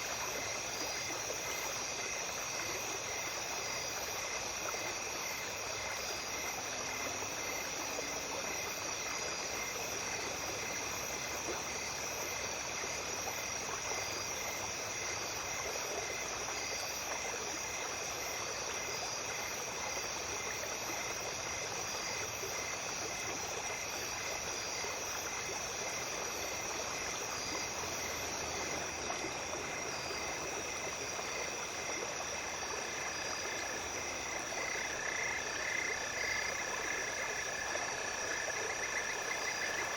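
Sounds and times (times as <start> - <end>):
brook flowing: 0.0 - 39.9
insects trilling: 0.0 - 39.9
pulsing insect chirp: 0.0 - 39.9.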